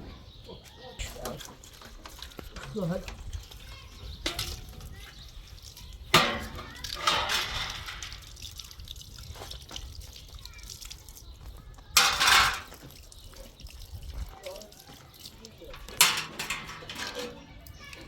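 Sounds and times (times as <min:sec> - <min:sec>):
water splashing and pouring: 0:01.1 - 0:18.0.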